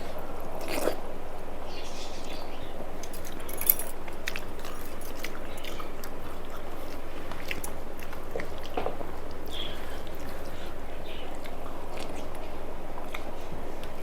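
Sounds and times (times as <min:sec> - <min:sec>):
person chewing food: 0:00.0 - 0:01.4, 0:02.0 - 0:14.0
steady background hiss: 0:00.0 - 0:14.0.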